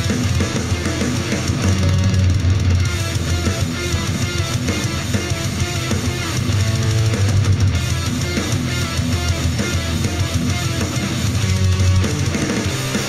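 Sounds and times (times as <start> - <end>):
punk rock music over speaker: 0.0 - 13.0.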